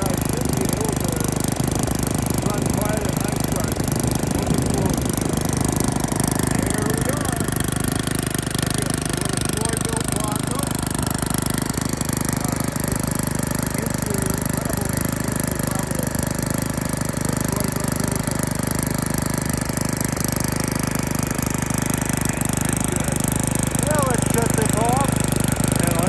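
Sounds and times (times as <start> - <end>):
tiller engine running: 0.0 - 26.0.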